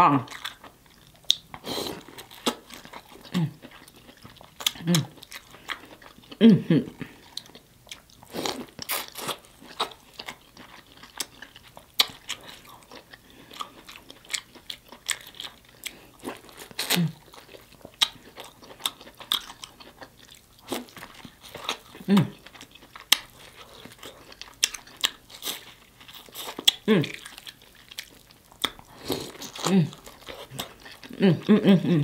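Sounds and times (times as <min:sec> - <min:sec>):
wet chewing and lip-smacking: 0:00.3 - 0:06.4, 0:07.0 - 0:31.5.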